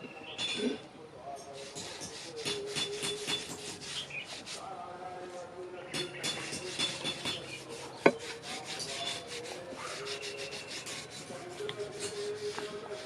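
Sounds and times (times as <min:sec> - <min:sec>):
rubbing and scraping strokes: 0:01.4 - 0:13.0.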